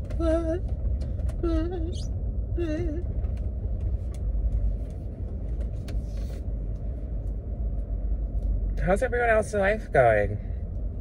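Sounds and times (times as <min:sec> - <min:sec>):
car rumble heard from inside: 0:00.0 - 0:11.0.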